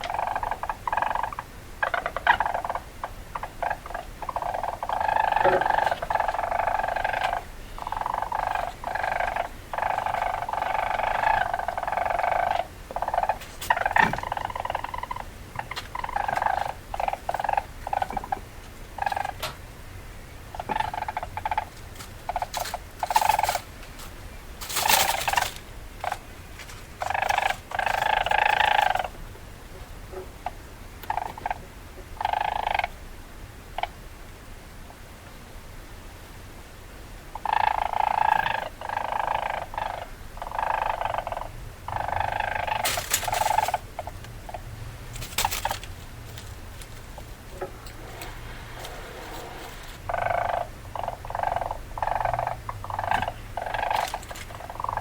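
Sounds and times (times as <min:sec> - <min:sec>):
weasel chattering: 0:00.0 - 0:19.4, 0:20.5 - 0:23.7, 0:24.6 - 0:26.3, 0:27.0 - 0:29.2, 0:30.4 - 0:31.6, 0:32.2 - 0:32.9, 0:37.4 - 0:55.0.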